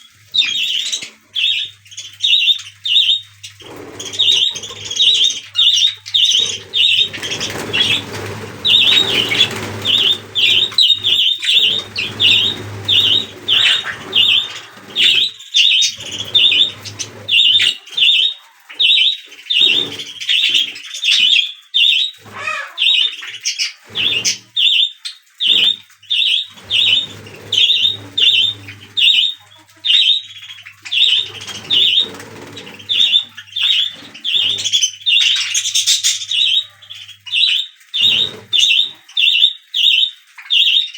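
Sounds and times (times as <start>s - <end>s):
budgerigar chicks chirping: 0.0s - 40.9s.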